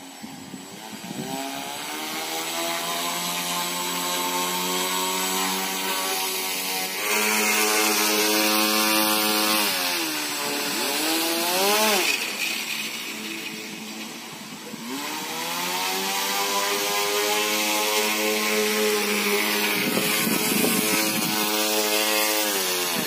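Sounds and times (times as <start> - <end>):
propeller motors whining: 0.0 - 23.0.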